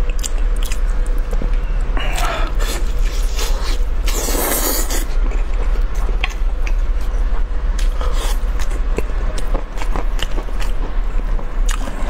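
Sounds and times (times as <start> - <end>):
chewing with clicks and smacks: 0.0 - 12.0
steady low hum: 0.0 - 12.0.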